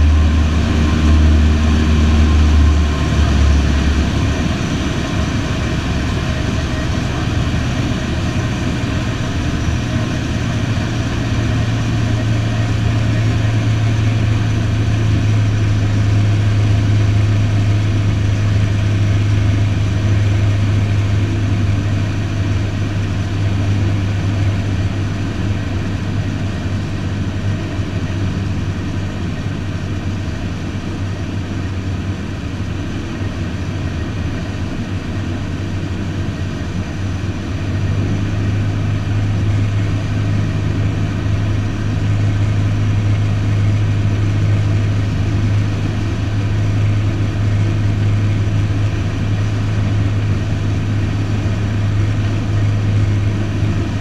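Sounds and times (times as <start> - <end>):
light aircraft engine and propeller drone: 0.0 - 54.0.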